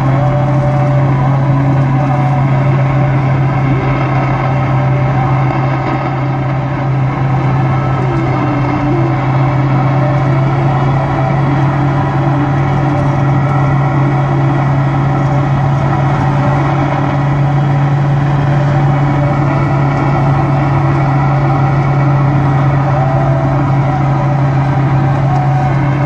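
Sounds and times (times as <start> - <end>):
low buzzing hum: 0.0 - 26.0.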